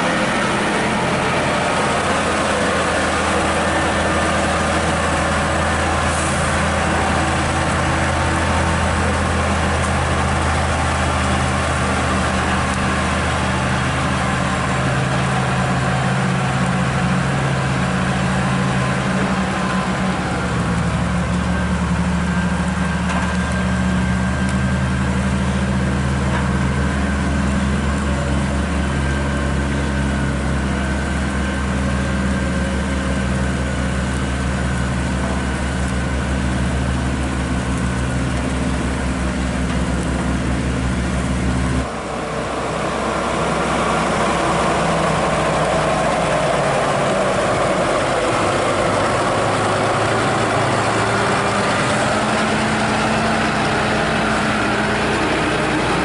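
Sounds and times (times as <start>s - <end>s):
engine and road noise: 0.0s - 56.0s
truck diesel engine droning: 0.0s - 56.0s.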